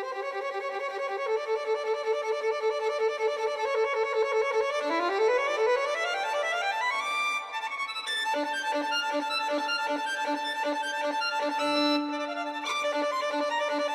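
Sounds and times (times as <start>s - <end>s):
violin music: 0.0s - 13.9s.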